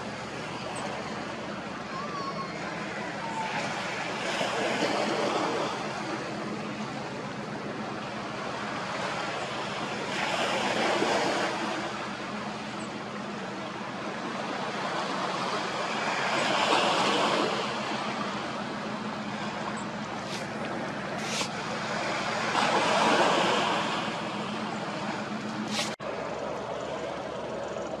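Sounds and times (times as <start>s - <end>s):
small waves washing on shore: 0.0s - 28.0s.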